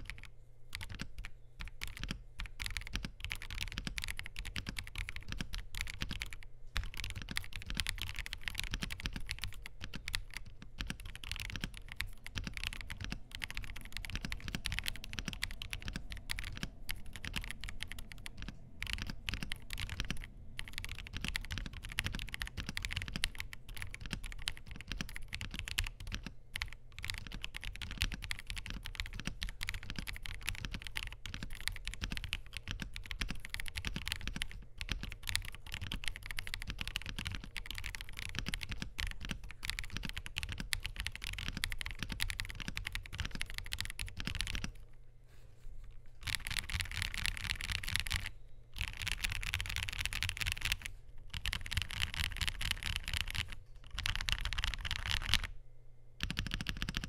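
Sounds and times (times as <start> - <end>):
fast typing on mechanical keyboard: 0.0 - 44.8, 46.2 - 55.5, 56.2 - 57.0.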